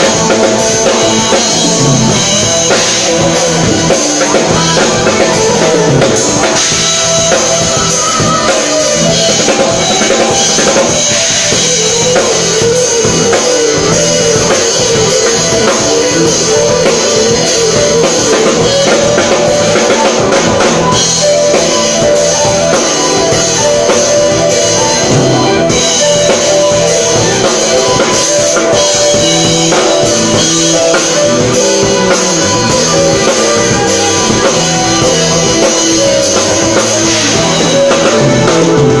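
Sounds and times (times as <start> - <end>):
bass and melodic parts: 0.0 - 39.0
rock drum kit playing: 0.0 - 39.0.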